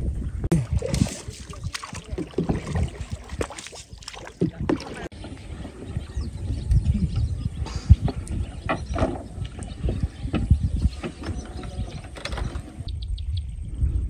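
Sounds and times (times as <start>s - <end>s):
wind rumbling on microphone: 0.0s - 14.0s
boat knocks and splashes: 0.5s - 12.9s.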